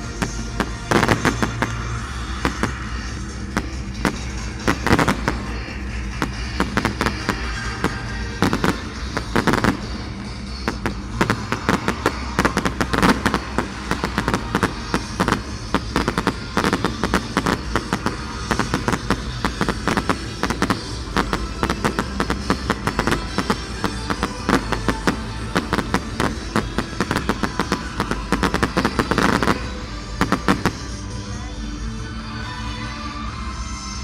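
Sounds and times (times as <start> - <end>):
fireworks banging and crackling: 0.0 - 31.2.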